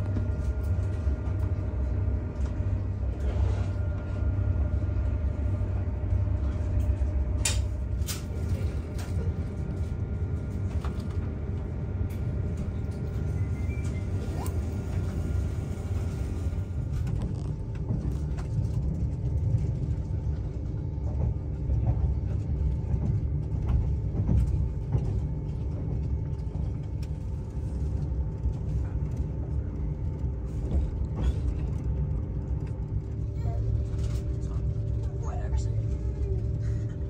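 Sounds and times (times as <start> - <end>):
faint hum: 0.0 - 37.0
train rumbling: 0.0 - 37.0.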